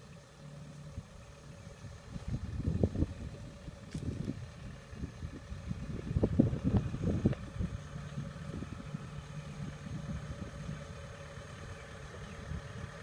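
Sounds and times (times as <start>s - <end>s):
farm machine engine humming: 0.0s - 13.0s.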